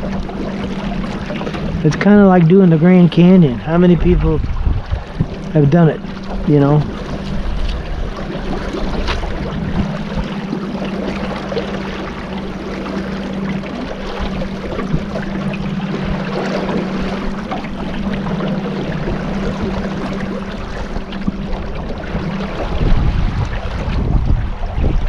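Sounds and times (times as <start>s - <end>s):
boat motor humming: 0.0s - 25.0s
water rushing: 0.0s - 25.0s
wind: 0.0s - 25.0s.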